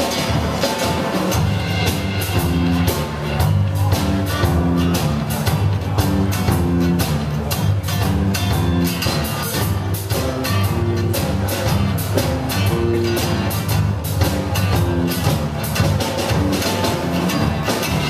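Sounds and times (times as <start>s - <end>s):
acoustic guitar: 0.0s - 18.0s
electric bass: 0.0s - 18.0s
steady drum beat: 0.0s - 18.0s.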